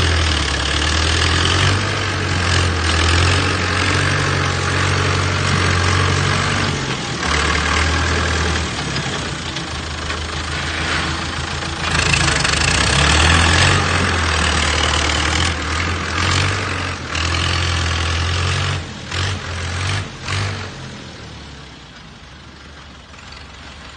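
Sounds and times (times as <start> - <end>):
heavy machine engine running: 0.0 - 23.9.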